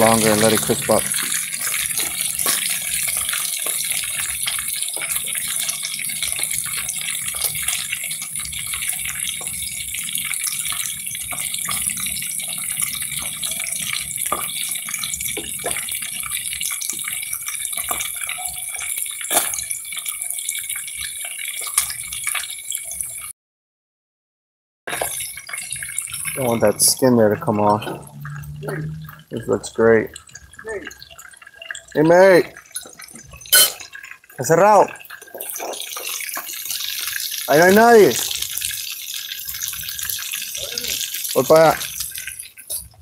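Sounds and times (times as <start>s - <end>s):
hot oil sizzling: 0.0s - 23.3s, 24.9s - 43.0s
oil popping and crackling: 0.0s - 23.3s, 24.9s - 43.0s.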